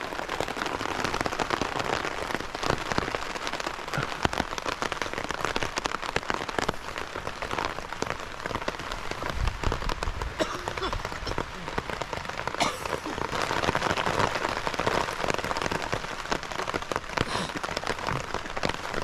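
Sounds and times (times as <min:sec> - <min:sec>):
heavy rain on a tarp: 0:00.0 - 0:19.0.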